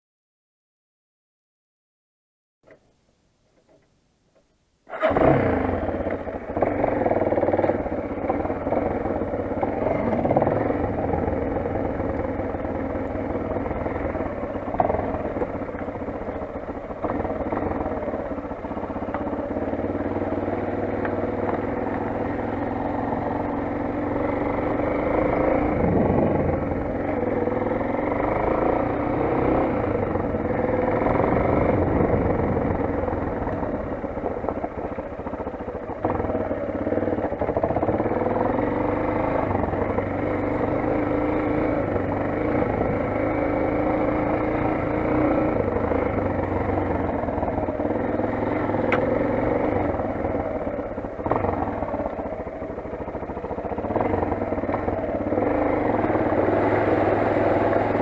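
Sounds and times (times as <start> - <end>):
motorcycle engine running: 4.8 - 58.0.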